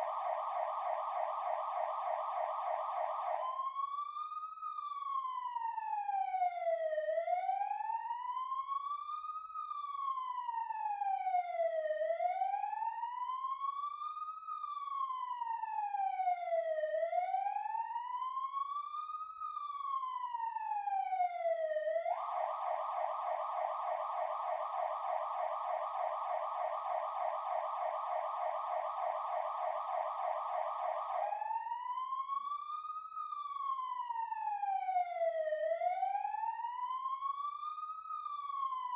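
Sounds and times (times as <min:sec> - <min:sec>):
emergency siren wailing and yelping: 0:00.0 - 0:38.9.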